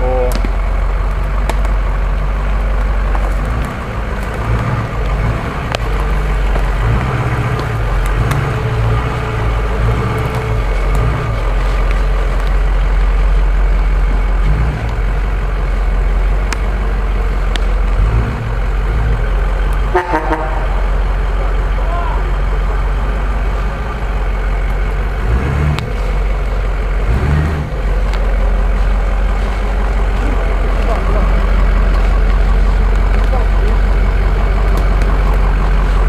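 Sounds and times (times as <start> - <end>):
truck engine at low revs: 0.0 - 36.0.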